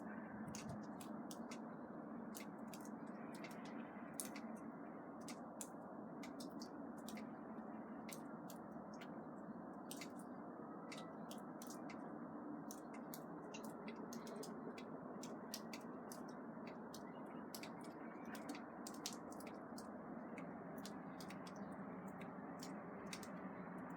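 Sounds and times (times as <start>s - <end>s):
water dripping: 0.0s - 23.9s.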